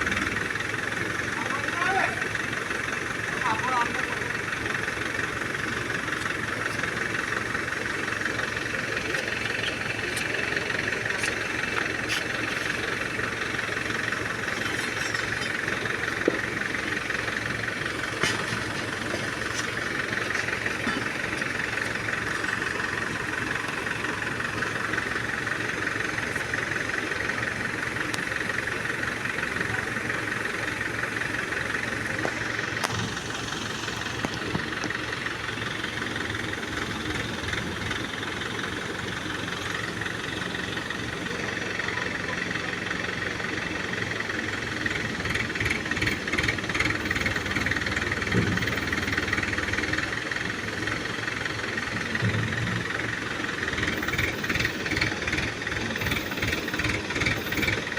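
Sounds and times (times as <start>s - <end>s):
crane diesel engine running: 0.0s - 57.9s.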